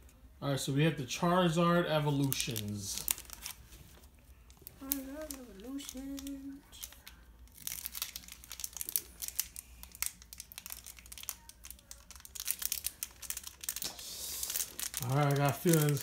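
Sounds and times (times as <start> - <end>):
foil wrapper crinkling: 2.1 - 16.0.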